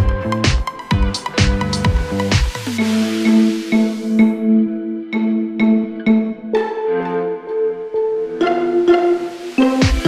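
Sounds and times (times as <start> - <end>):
background music of sustained notes: 0.0 - 10.0.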